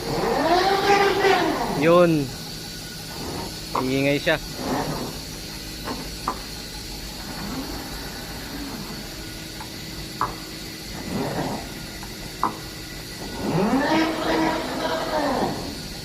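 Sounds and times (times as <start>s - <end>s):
machine motor hum: 0.0s - 16.0s
motor whine: 0.0s - 16.0s.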